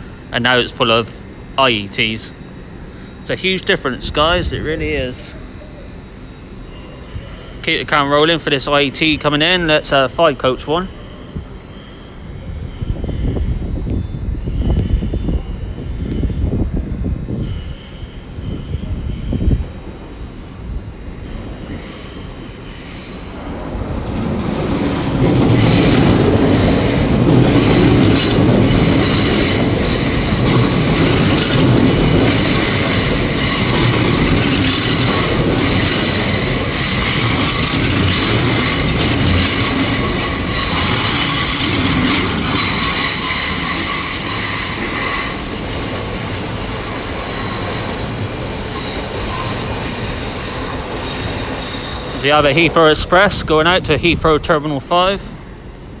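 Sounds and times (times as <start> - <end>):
train wheels squealing: 0.0 - 53.3
train rumble: 0.0 - 56.0.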